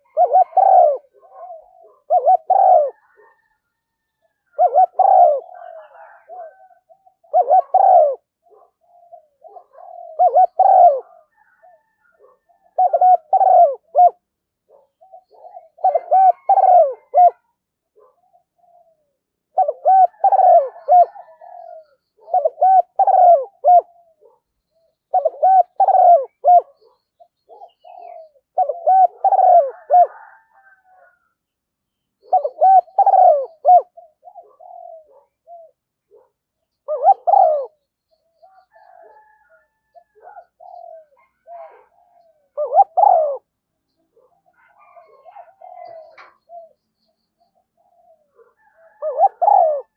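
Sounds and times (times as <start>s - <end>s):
dove cooing: 0.0s - 31.3s, 32.2s - 49.9s.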